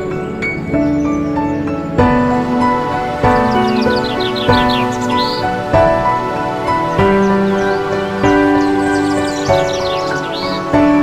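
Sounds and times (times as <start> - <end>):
bird chirp: 0.0 - 11.0
soft new-age music: 0.0 - 11.0.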